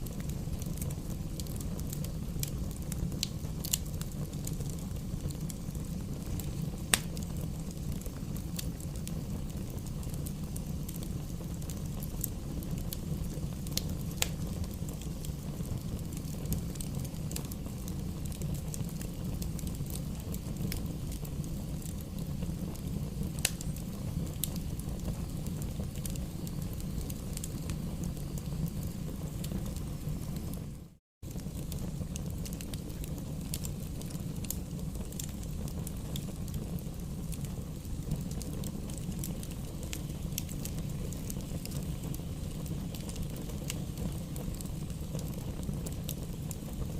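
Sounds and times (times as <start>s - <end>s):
campfire flames rushing: 0.0s - 46.9s
fire crackles and pops: 0.0s - 46.9s.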